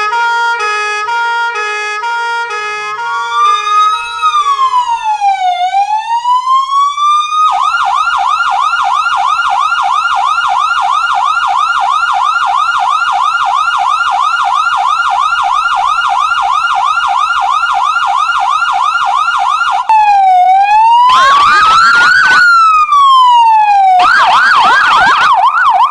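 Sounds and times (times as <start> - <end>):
emergency vehicle siren: 0.0 - 25.9.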